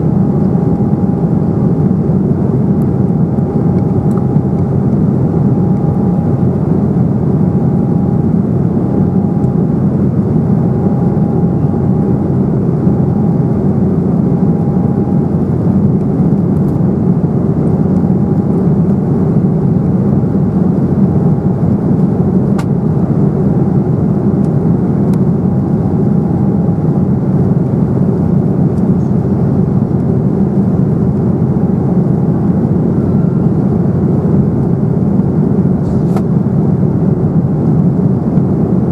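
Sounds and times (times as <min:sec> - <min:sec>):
airplane cabin roar: 0:00.0 - 0:38.9
faint high hum: 0:00.0 - 0:38.9.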